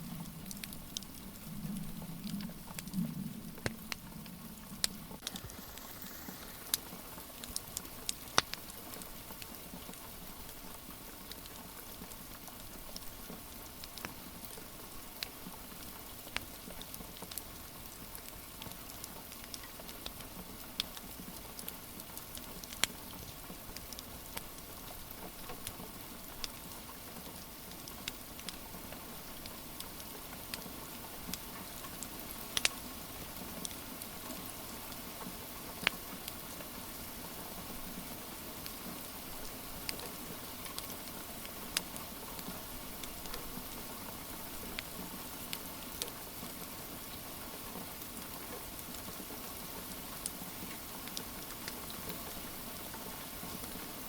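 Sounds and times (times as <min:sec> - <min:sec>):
wood fire crackling: 0:00.0 - 0:46.5, 0:47.9 - 0:54.0
rain hiss: 0:00.0 - 0:54.0.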